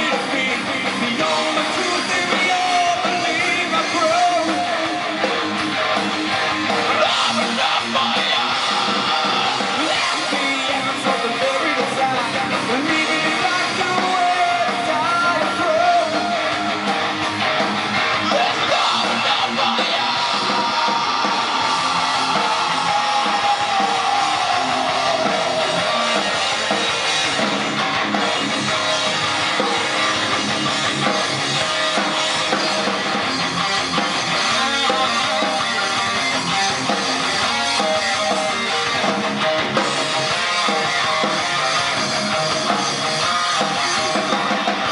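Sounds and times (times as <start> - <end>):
distorted electric guitars: 0.0 - 44.9
drum kit: 0.0 - 44.9.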